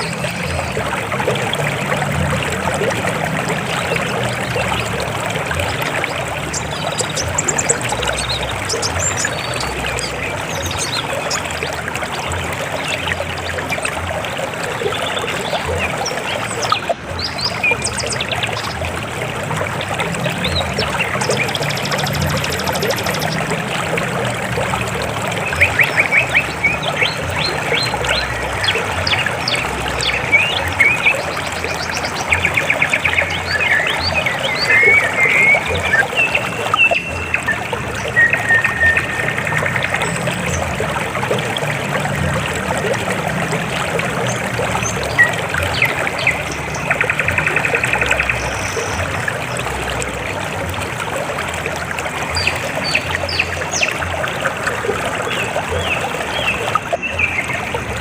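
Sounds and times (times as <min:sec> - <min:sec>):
birds chirping: 0:00.0 - 0:50.2
river water flowing: 0:00.0 - 0:58.0.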